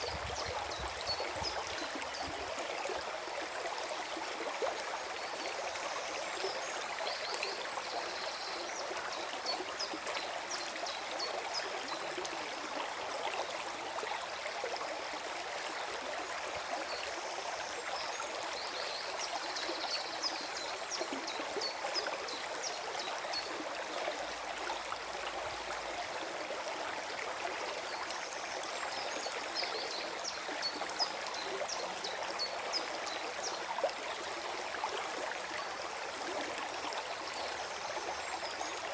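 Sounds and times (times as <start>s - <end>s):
stream gurgling: 0.0s - 38.9s.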